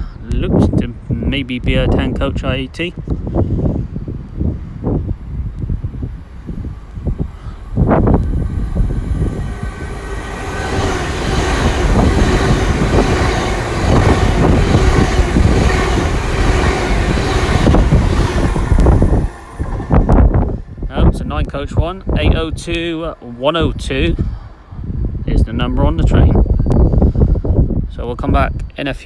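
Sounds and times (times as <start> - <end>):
train passing with loud rumble: 2.2 - 25.7.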